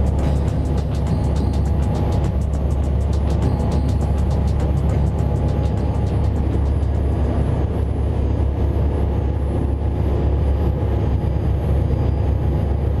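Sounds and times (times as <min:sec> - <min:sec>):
ferry engines droning: 0:00.0 - 0:13.0
rush of boat wake: 0:00.0 - 0:13.0.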